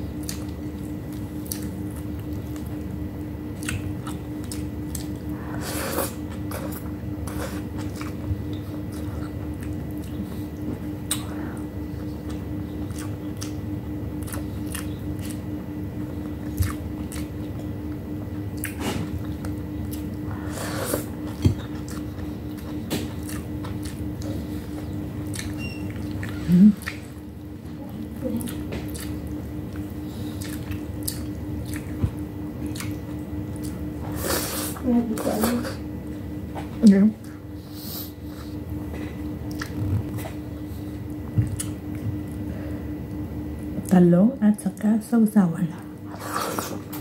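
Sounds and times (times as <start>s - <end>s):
steady low hum: 0.0s - 47.0s
wet chewing with mouth clicks: 0.1s - 44.0s.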